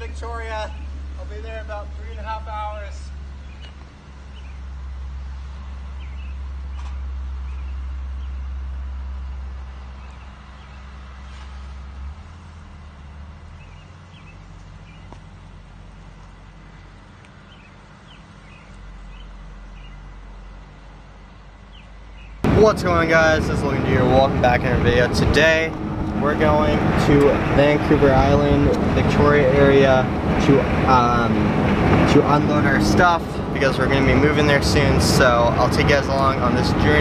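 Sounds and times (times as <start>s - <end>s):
low steady rumble: 0.0s - 37.0s.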